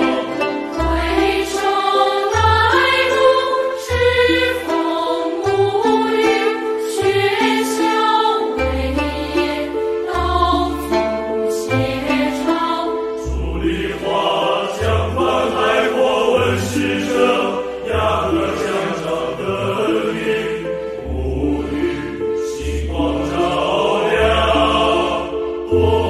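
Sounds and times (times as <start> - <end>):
choir singing solemn song: 0.0 - 26.0
instrumental accompaniment: 0.0 - 26.0.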